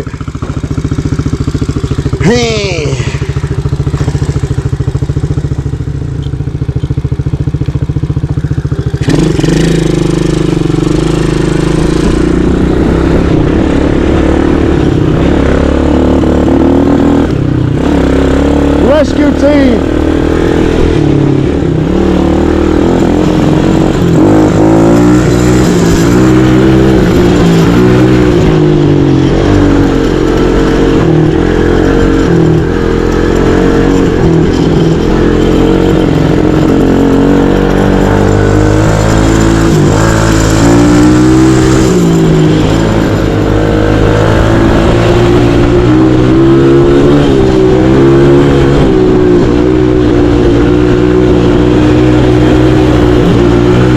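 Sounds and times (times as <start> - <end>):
small engine revving: 8.8 - 53.9.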